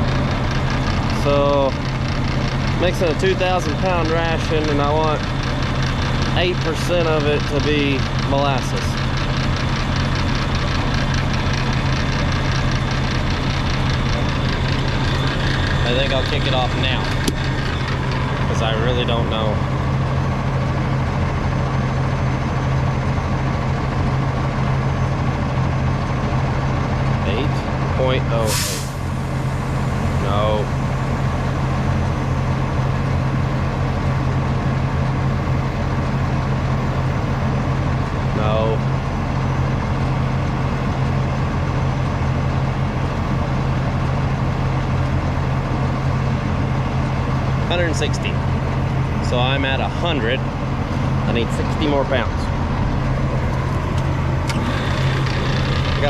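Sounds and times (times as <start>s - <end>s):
heavy engine running: 0.0s - 56.0s.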